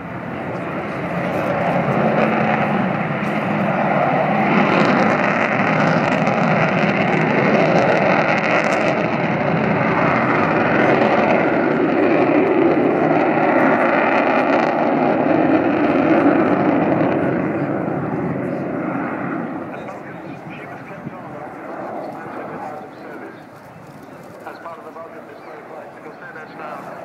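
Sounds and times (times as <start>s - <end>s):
jet aircraft flying overhead: 0.0s - 27.0s.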